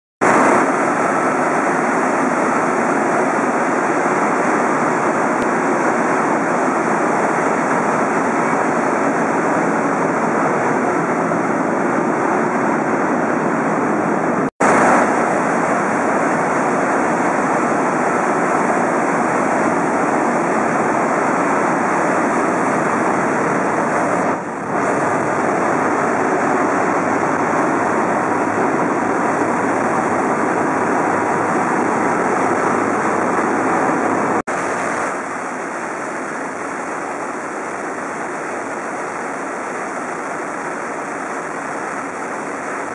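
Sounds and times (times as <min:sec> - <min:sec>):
turbine rushing noise: 0:00.2 - 0:42.9.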